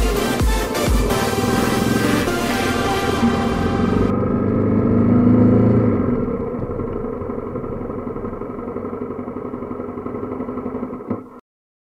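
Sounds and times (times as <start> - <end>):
motorcycle engine running at low revs: 0.0 - 11.4.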